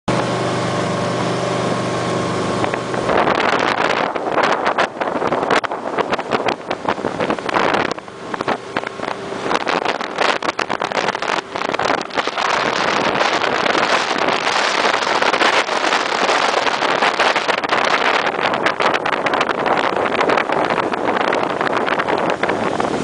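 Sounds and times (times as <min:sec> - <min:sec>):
boat engine drone: 0:00.1 - 0:23.0
water rushing along hull: 0:00.1 - 0:23.0
wind buffeting microphone: 0:00.1 - 0:23.0.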